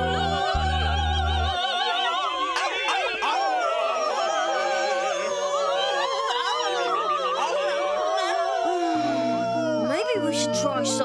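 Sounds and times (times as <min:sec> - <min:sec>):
cartoon dogs howling: 0:00.0 - 0:11.0
operatic singing: 0:00.0 - 0:11.0.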